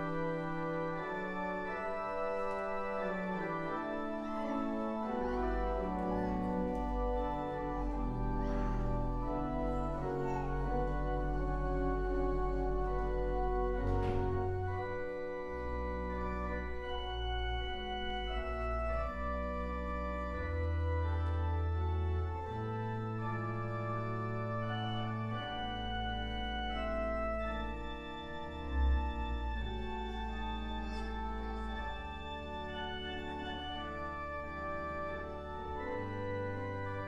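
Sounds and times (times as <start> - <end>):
organ playing sustained chords: 0.0 - 37.0.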